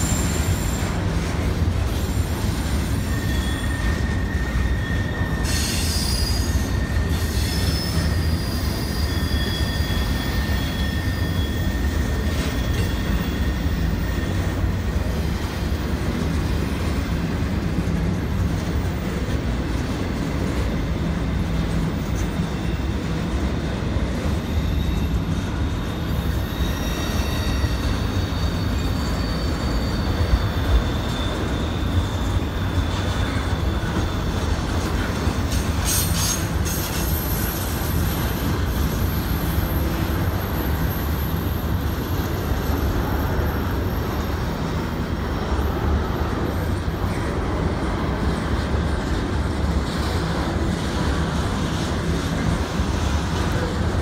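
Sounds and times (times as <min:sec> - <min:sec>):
high wheel squeals: 0:00.0 - 0:19.3, 0:20.6 - 0:54.0
steel wheels rumbling on rail: 0:00.0 - 0:54.0.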